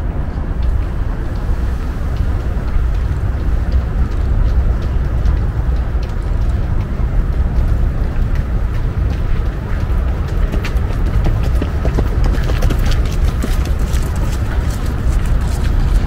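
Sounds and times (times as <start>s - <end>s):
distant city traffic rumble: 0.0s - 16.0s
faint ticks and crackles: 0.2s - 16.0s.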